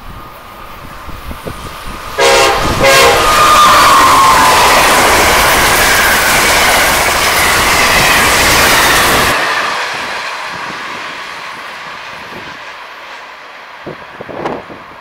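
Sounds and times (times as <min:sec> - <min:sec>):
high whine of train: 0:00.0 - 0:15.0
train wheels rushing on rail: 0:00.0 - 0:15.0.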